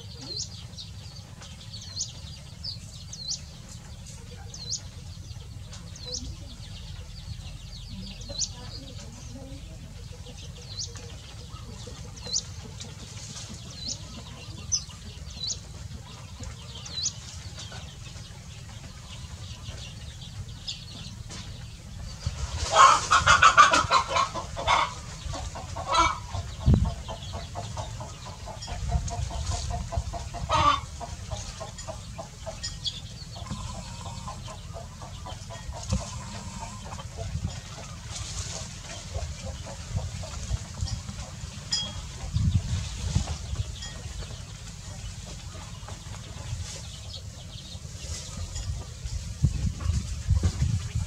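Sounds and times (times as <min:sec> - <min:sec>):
chicks peeping: 0:00.0 - 0:51.0
hen clucking: 0:00.0 - 0:51.0.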